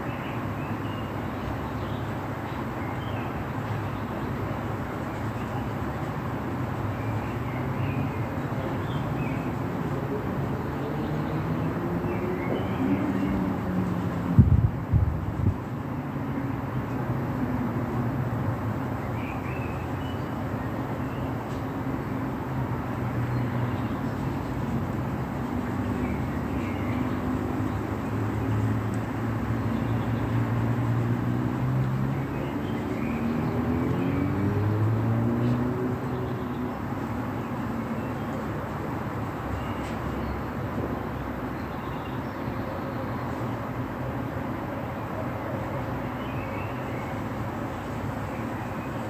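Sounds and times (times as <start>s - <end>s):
traffic rumble and tyre hiss: 0.0s - 49.0s.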